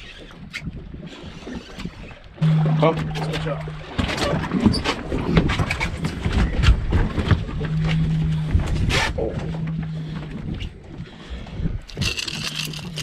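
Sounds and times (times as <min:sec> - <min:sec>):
water sloshing against boat hull: 0:00.0 - 0:13.0
low steady hum: 0:02.4 - 0:13.0.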